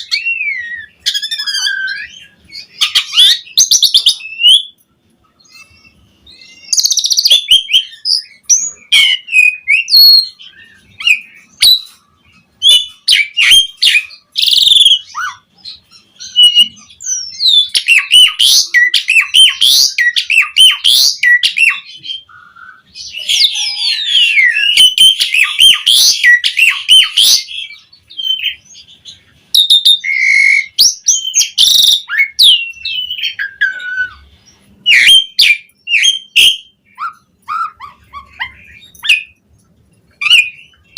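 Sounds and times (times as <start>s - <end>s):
starling singing: 0.0s - 4.8s, 5.4s - 40.9s.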